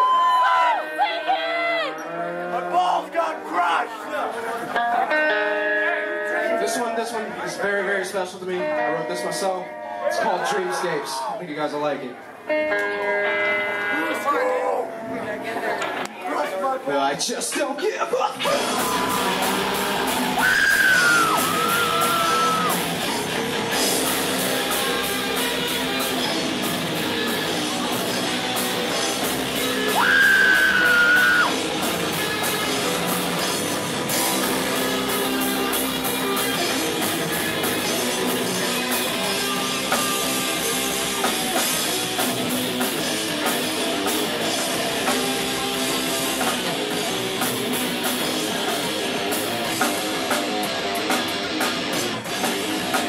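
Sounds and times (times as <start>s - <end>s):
live rock band playing: 0.0s - 16.2s, 18.3s - 53.0s.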